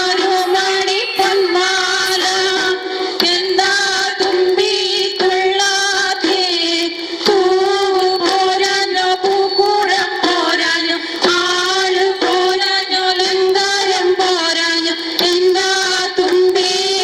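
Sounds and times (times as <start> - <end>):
woman singing folk song: 0.0 - 17.0.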